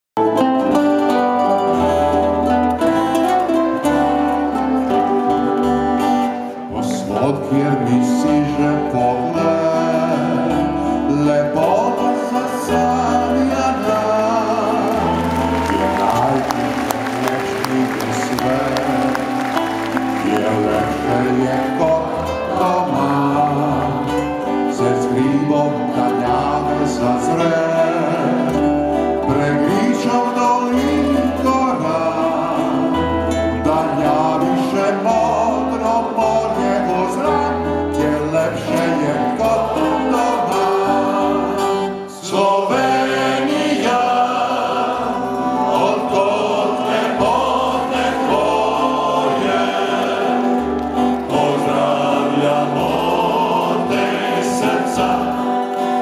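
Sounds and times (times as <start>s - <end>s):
acoustic guitar: 0.2s - 56.0s
male vocal group singing in harmony: 6.2s - 56.0s.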